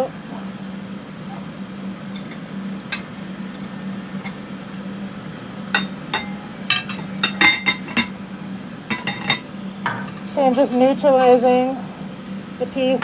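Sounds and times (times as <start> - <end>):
fume extraction fans humming: 0.0 - 13.0.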